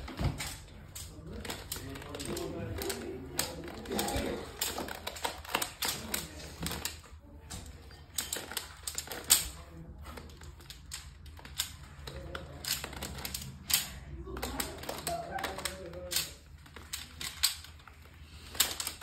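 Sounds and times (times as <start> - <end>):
puzzle cube clicking: 0.0 - 7.1, 8.0 - 19.0.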